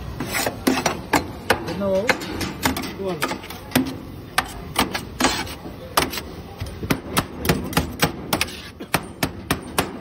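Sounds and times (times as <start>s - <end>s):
metal blades chopping on griddle: 0.0s - 10.0s.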